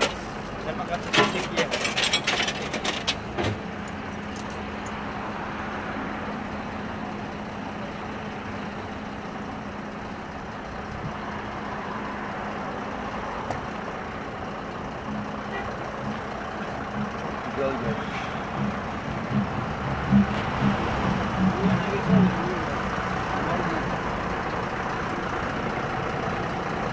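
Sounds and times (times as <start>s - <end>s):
road traffic noise: 0.0s - 26.9s.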